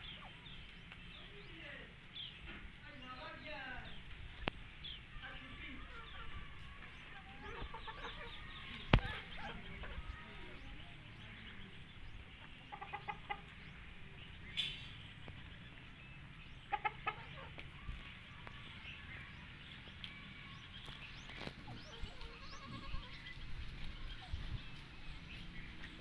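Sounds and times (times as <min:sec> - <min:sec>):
chickens clucking: 0:00.0 - 0:02.8, 0:04.0 - 0:26.0.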